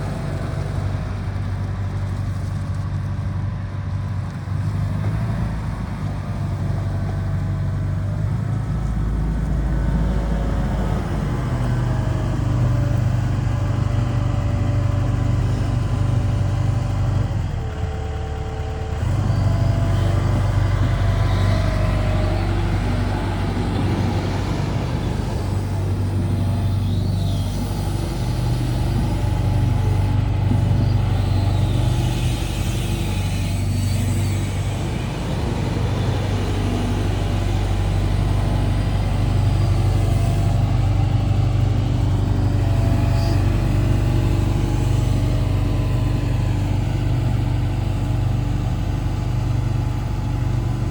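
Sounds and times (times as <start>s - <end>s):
diesel excavator engine running: 0.0s - 50.9s.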